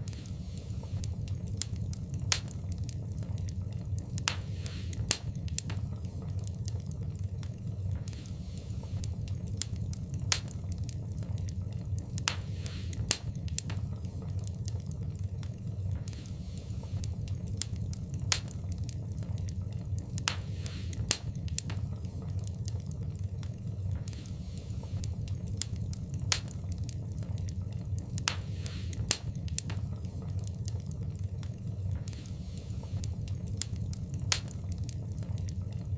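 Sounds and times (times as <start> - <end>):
loud fire pops: 0.0 - 35.9
low rumble of flames: 0.0 - 35.9
wood fire crackling: 0.0 - 35.9.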